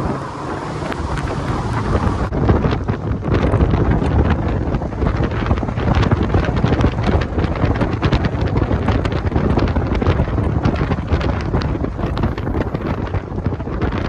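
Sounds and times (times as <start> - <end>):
rumble of moving car: 0.0 - 14.0
wind buffeting microphone: 0.0 - 14.0.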